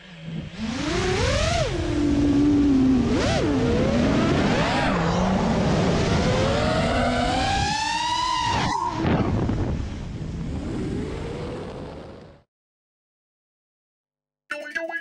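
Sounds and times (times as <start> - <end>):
quadcopter motors whining: 0.0 - 12.3.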